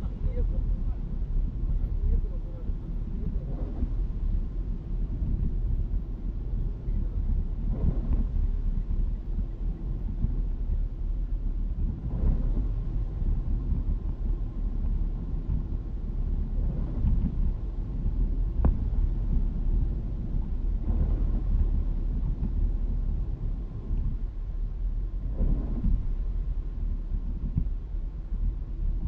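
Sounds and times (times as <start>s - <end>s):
road and engine rumble: 0.0s - 29.0s
windscreen wipers swishing: 0.0s - 29.0s.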